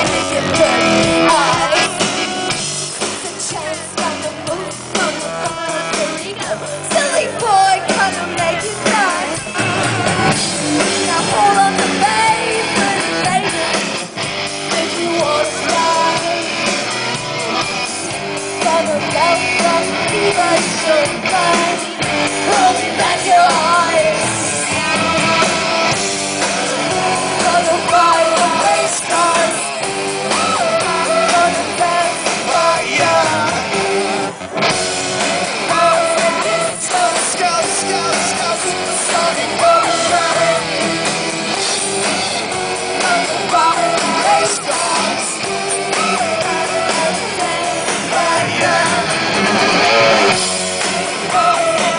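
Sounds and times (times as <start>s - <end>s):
lead vocal singing: 0.0s - 51.9s
live rock band: 0.0s - 51.9s.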